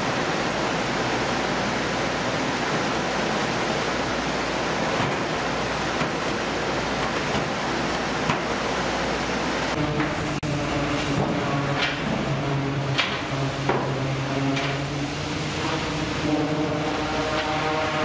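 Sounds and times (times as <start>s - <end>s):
machinery roaring: 0.0s - 18.0s.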